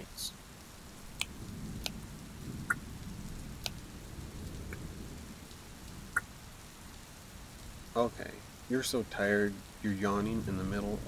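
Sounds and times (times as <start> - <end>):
steady rain: 0.0 - 11.0
low rumble of thunder: 0.8 - 11.0.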